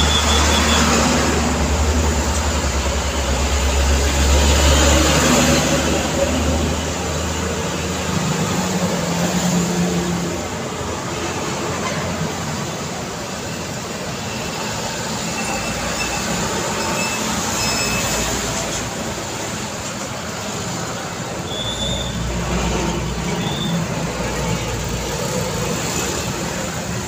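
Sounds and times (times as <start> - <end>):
dump truck passing close: 0.0 - 27.0
traffic driving past: 0.0 - 27.0.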